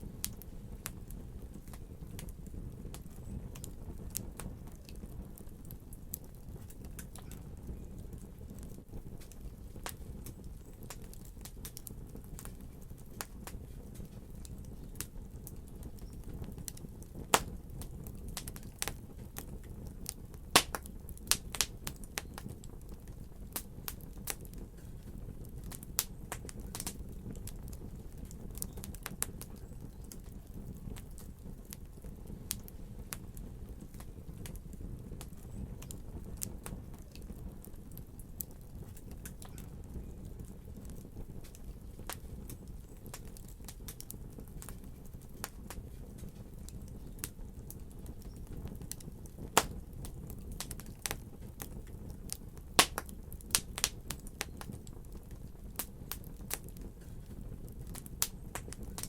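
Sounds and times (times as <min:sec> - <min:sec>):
fire crackling and popping: 0:00.0 - 0:59.0
fire low rumble: 0:00.0 - 0:59.0.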